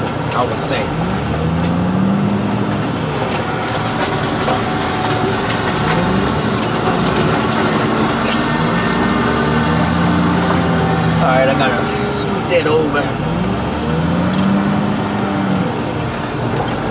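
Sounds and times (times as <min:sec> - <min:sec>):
heavy diesel machinery engine: 0:00.0 - 0:16.9.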